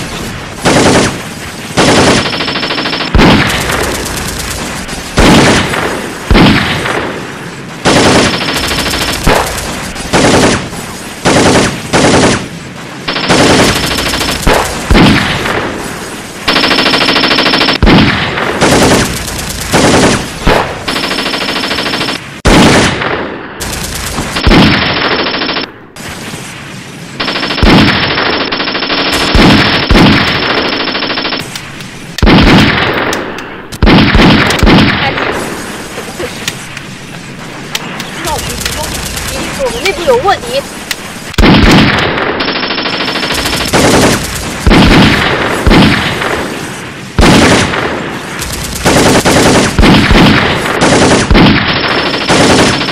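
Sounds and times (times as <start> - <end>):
single gunshots: 0.0 - 37.0, 37.6 - 52.9
automatic gunfire: 0.6 - 7.2, 7.8 - 12.5, 13.1 - 15.7, 16.5 - 25.7, 27.2 - 31.6, 32.2 - 36.7, 41.4 - 46.5, 47.2 - 52.9.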